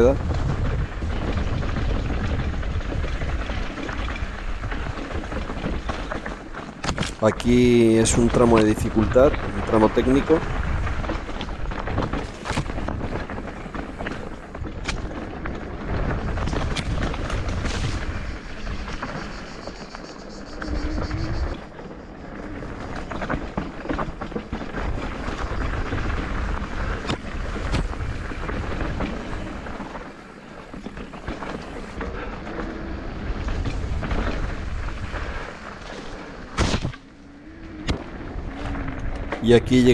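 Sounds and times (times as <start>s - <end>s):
bike rattling over stones: 0.0s - 39.9s.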